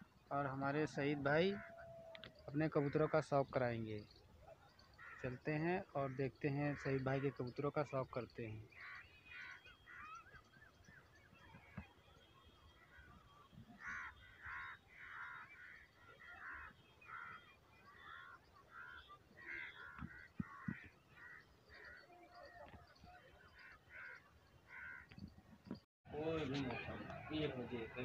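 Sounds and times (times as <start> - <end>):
bird calling: 0.0 - 28.0.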